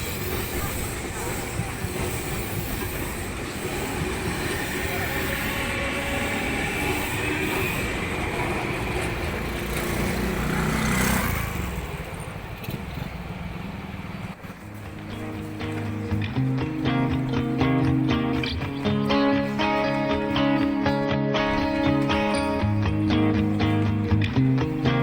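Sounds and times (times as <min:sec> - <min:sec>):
electric train running: 0:00.0 - 0:24.0
faint train whine: 0:00.0 - 0:25.0.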